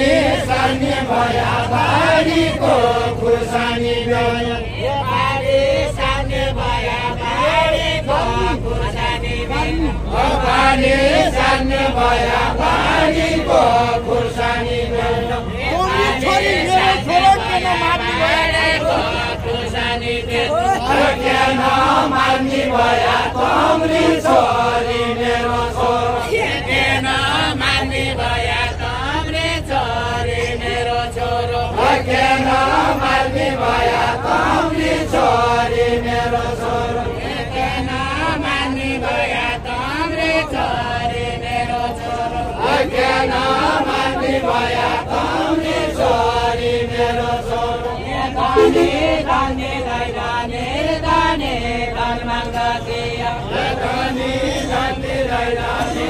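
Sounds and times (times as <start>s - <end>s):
voices chanting folk song: 0.0s - 56.0s.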